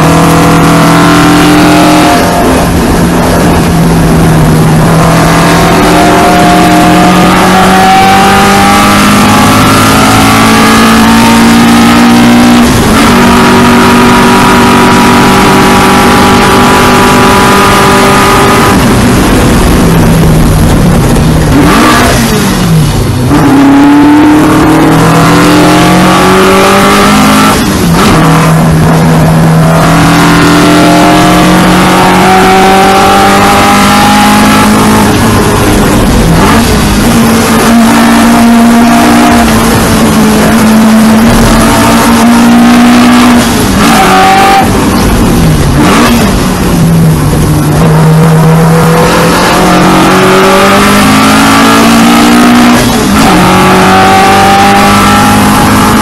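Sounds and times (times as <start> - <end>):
racing car engine revving: 0.0 - 56.0
wind and road noise: 0.0 - 56.0.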